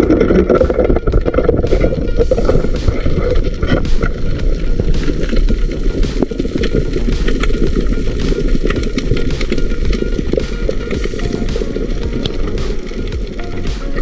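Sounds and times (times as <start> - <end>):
muffled underwater rumbling: 0.0 - 14.0.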